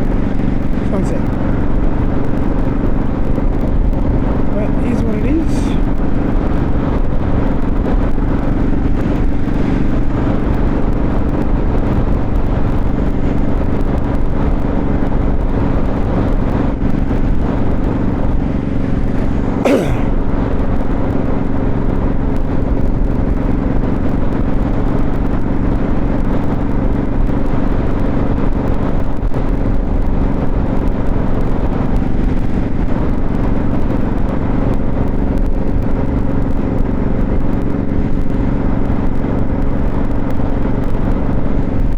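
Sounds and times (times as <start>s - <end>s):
road and wind noise: 0.0s - 41.9s.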